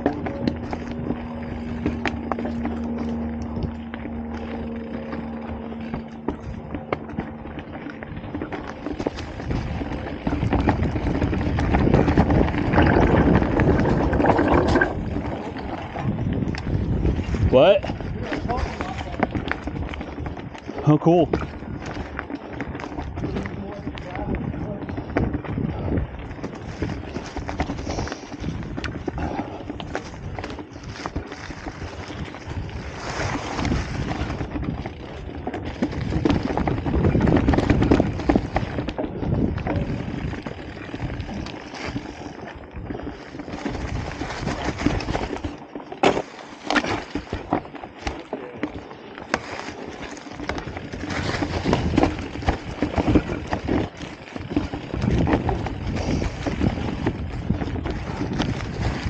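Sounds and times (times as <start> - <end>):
bike knocking on rocks: 0.0 - 59.0
bike rattling: 0.0 - 59.0
bike tyres crunching through leaves: 0.0 - 59.0.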